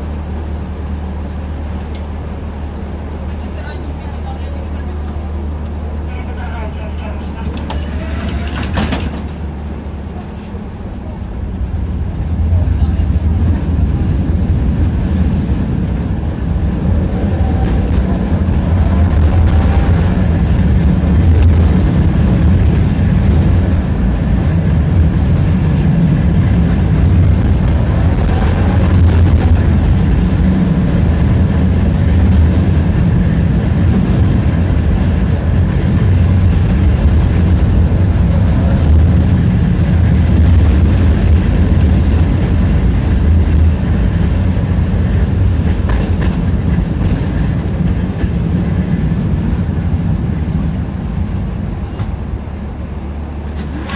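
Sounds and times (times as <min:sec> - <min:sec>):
tram wheels rumbling on track: 0:00.0 - 0:53.9.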